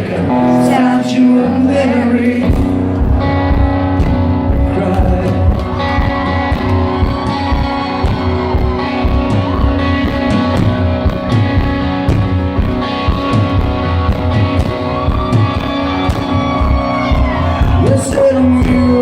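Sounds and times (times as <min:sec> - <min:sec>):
bass guitar: 0:00.0 - 0:19.0
electric guitar lead: 0:00.0 - 0:19.0
strummed guitar: 0:00.0 - 0:19.0
steady drum beat: 0:02.5 - 0:19.0.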